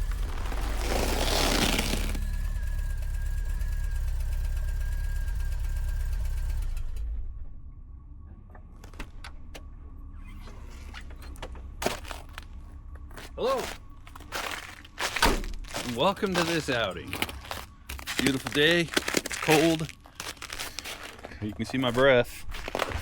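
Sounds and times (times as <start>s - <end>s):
van engine rumbling: 0.0s - 23.0s.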